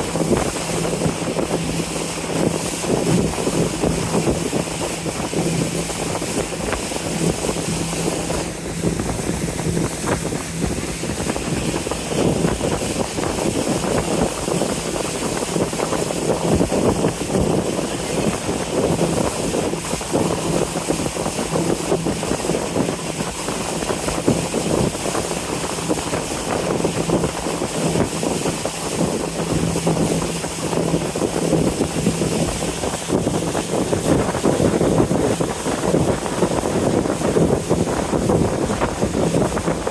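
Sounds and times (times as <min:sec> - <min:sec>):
boat engine humming: 0:00.0 - 0:39.9
water rushing: 0:00.0 - 0:39.9
wind on microphone: 0:00.0 - 0:39.9.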